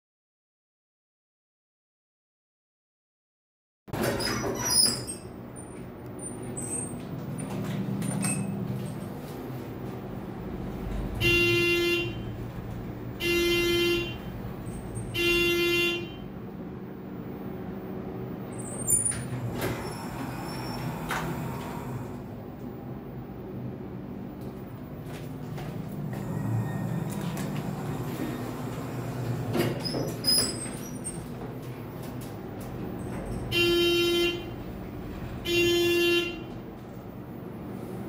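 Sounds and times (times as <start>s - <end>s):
elevator hum: 3.9s - 38.0s.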